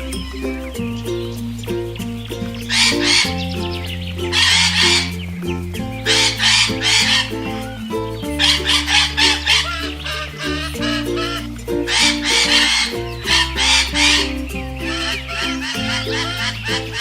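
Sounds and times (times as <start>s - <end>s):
background music with bass: 0.0s - 17.0s
macaws squawking: 2.5s - 17.0s.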